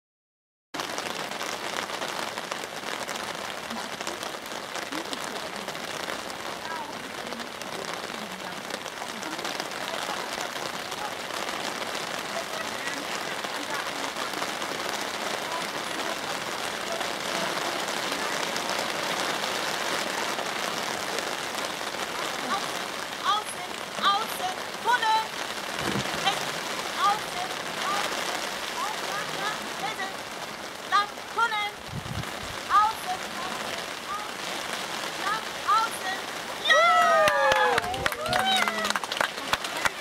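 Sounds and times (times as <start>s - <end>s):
rain pattering: 0.8s - 40.0s
steady hiss with crackle: 0.8s - 40.0s.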